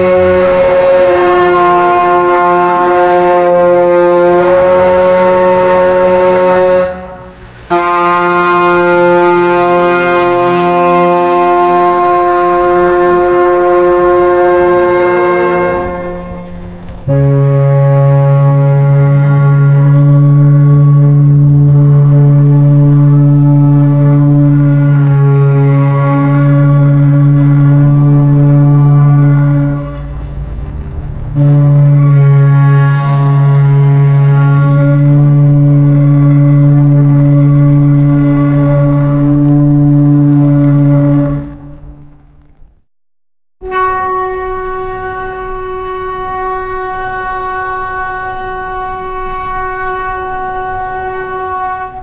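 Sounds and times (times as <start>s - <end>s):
ship's horn blast: 0.0s - 42.6s, 43.6s - 52.0s
low rumble: 0.0s - 42.9s.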